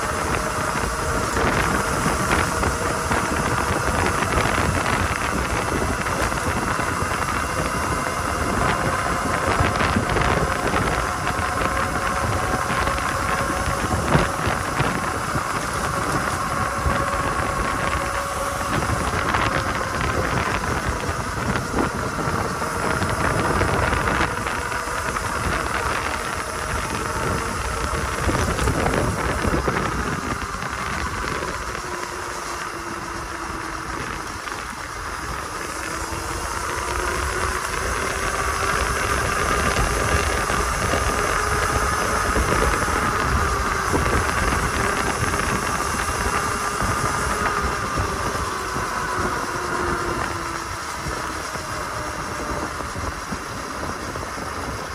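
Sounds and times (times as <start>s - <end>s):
electric motor whining: 0.0s - 54.9s
wind rumble: 0.0s - 54.9s.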